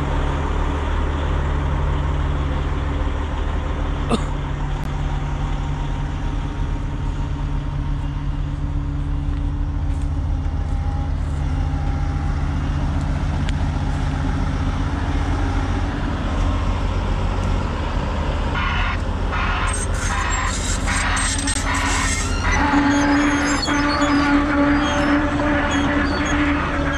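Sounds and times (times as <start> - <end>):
diesel engine droning: 0.0 - 26.9.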